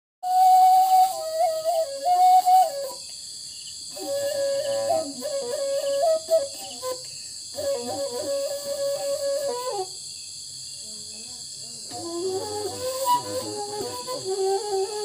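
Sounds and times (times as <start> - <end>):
bamboo flute slow melody: 0.2 - 3.3, 3.9 - 10.0, 11.9 - 15.0
crickets chirring: 0.2 - 15.0.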